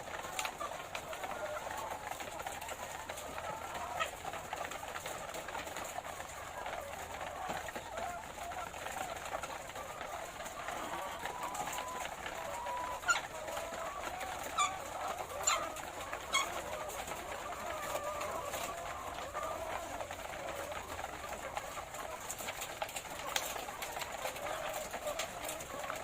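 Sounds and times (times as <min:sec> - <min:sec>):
hens calling: 0:00.0 - 0:26.0.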